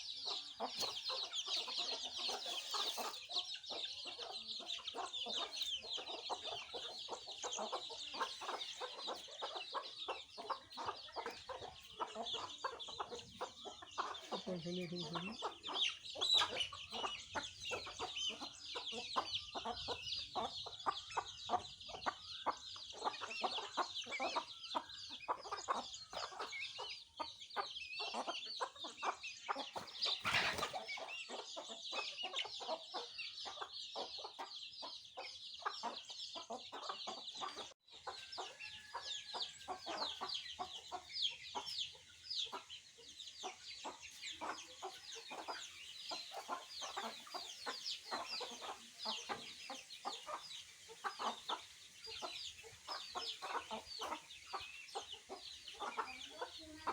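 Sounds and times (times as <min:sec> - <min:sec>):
chicks peeping: 0:00.0 - 0:56.9
hen clucking: 0:00.0 - 0:56.9.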